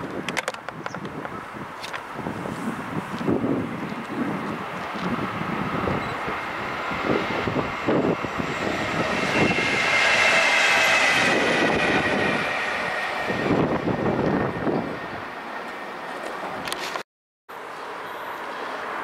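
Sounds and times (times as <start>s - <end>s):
electric locomotive passing: 1.4s - 16.8s.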